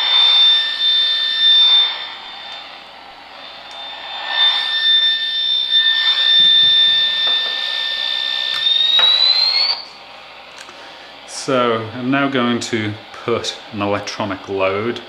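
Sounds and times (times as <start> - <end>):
high-pitched electrical whine: 0.0 - 15.0.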